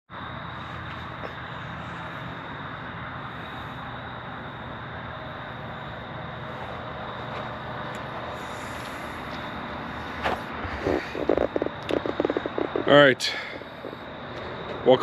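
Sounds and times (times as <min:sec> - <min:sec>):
vehicle engine running: 0:00.2 - 0:15.0.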